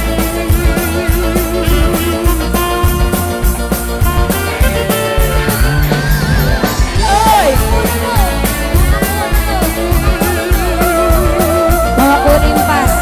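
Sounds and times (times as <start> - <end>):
steady drum beat: 0.0 - 13.0
wavering lead melody: 0.0 - 13.0.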